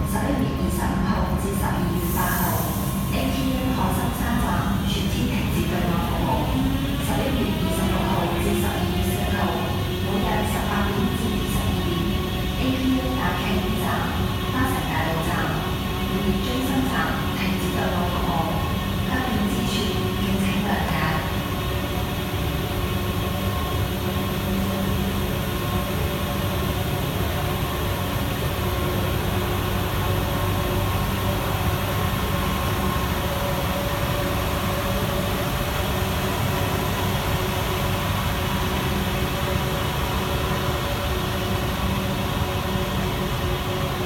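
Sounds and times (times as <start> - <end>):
train running: 0.0 - 44.0.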